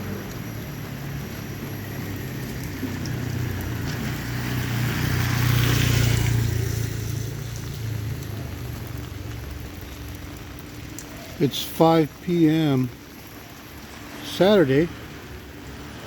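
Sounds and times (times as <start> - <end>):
tyres hissing on wet road: 0.0 - 16.0
vehicle engine drone: 0.0 - 16.0.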